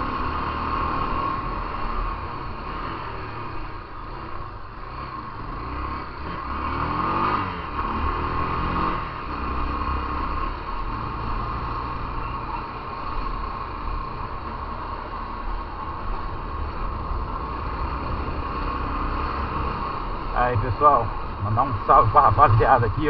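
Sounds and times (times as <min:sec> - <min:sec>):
road rush: 0:00.0 - 0:23.0
wind: 0:00.0 - 0:23.0.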